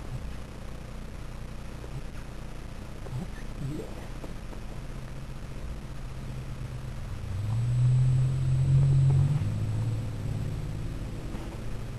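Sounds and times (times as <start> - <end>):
low rumbling hum: 0.0 - 11.9.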